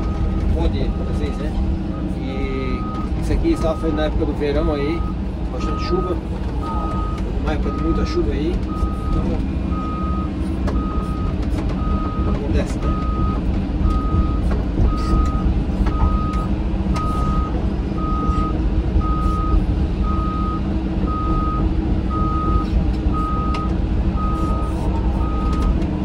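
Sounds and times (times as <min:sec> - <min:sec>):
travel alarm beeping: 0:00.0 - 0:04.1, 0:04.8 - 0:26.0
excavator diesel engine running: 0:00.0 - 0:26.0.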